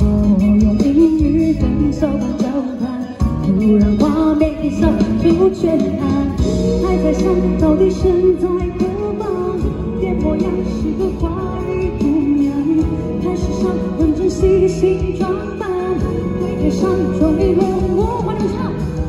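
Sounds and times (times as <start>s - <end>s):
female lead vocal: 0.0s - 19.0s
pop band playing: 0.0s - 19.0s.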